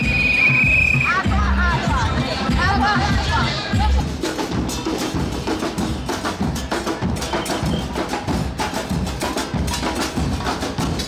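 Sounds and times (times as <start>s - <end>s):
street percussion band drumming: 0.0s - 11.0s.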